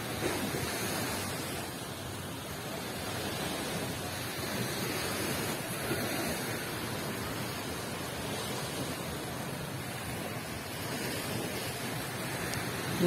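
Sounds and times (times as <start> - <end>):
gentle surf: 0.0 - 13.0.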